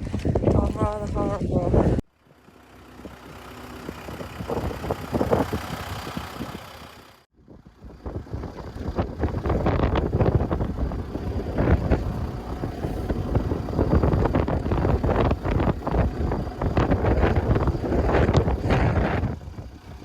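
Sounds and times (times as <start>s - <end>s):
gusty wind buffeting microphone: 0.0s - 20.0s.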